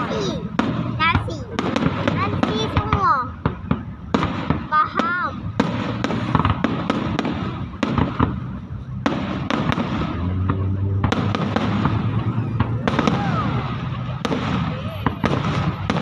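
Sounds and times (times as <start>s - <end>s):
fireworks bangs and cracks: 0.0s - 16.0s
low rumble of distant fireworks: 0.0s - 16.0s.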